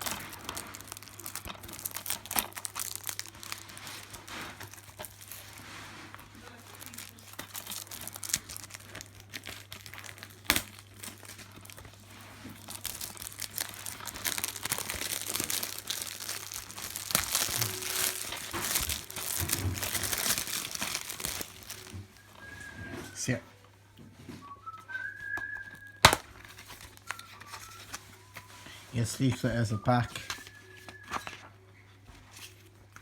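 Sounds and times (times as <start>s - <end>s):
plastic wrap crinkling and tearing: 0.0s - 23.2s, 24.6s - 33.0s.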